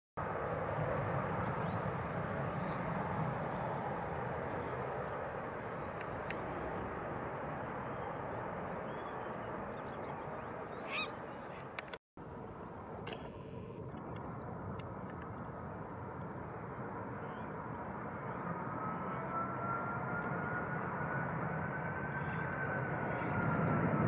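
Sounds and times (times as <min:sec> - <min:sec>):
distant jet engines rumbling: 0:00.2 - 0:24.0.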